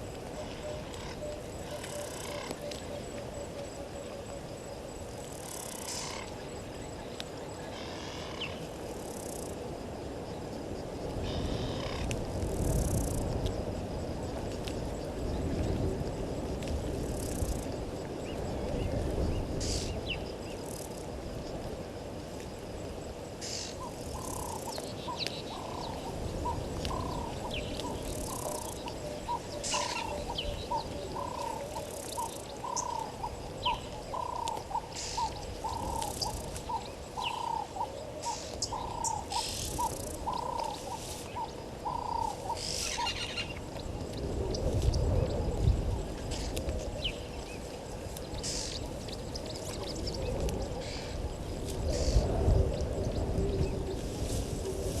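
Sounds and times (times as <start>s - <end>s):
wind rumble: 0.0s - 55.0s.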